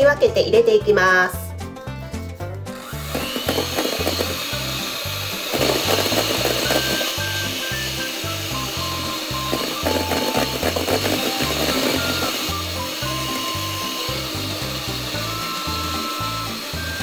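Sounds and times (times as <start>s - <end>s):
electric hand mixer running: 2.6s - 17.0s.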